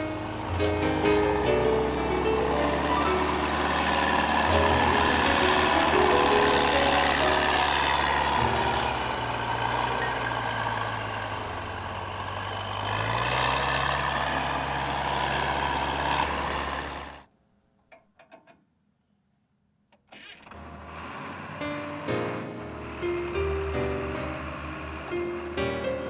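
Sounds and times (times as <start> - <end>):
heavy engine running: 0.0 - 17.3, 20.6 - 26.0.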